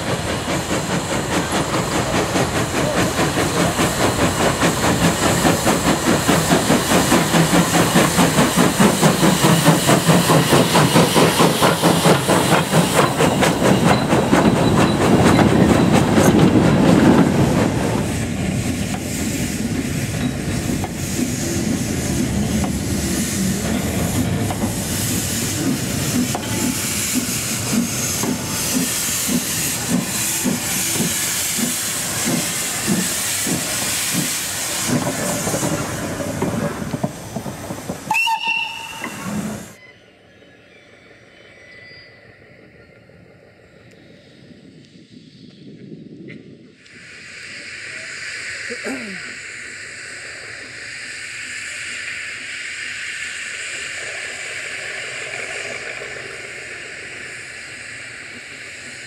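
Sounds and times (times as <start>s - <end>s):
steam hissing: 0.0s - 39.8s, 46.7s - 59.0s
steam locomotive chuffing: 0.0s - 39.8s, 46.8s - 59.0s.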